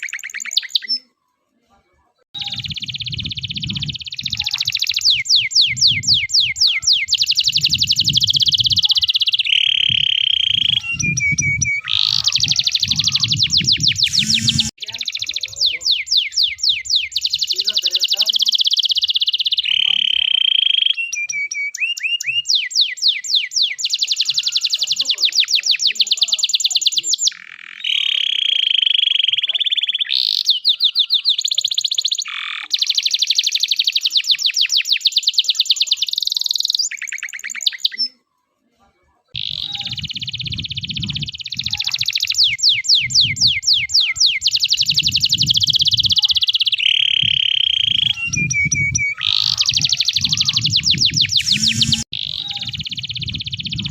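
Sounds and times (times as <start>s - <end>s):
canary singing trills: 0.0s - 1.2s, 2.4s - 38.2s, 39.4s - 53.9s.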